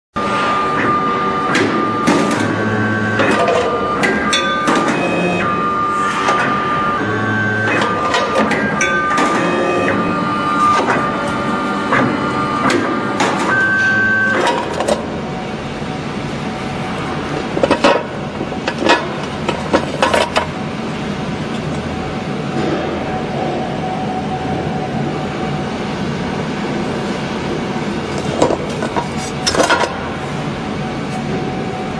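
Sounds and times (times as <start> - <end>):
high motor whine: 0.2 - 31.9
low machine hum: 0.2 - 31.9.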